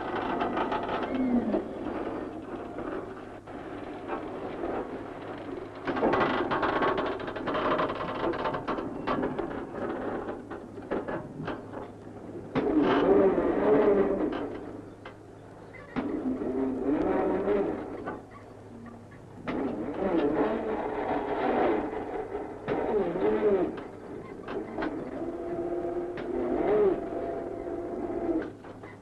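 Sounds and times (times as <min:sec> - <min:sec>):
construction machinery rattling: 0:00.0 - 0:29.0.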